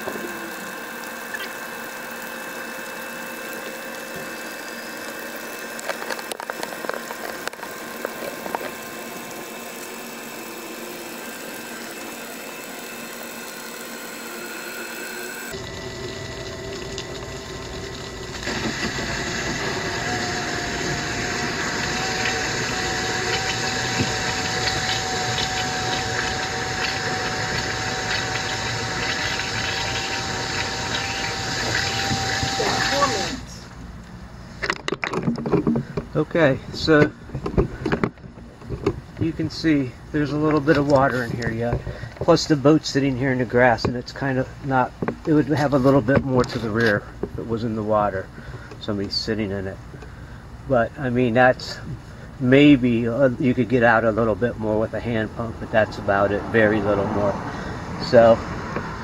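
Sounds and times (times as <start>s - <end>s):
electric bilge pump running: 0.0s - 34.4s, 35.2s - 59.0s
steady whine: 0.0s - 59.0s.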